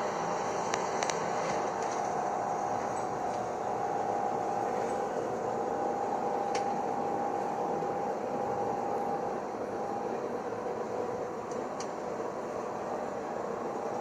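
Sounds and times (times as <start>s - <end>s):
bus engine drone and whine: 0.0s - 14.0s.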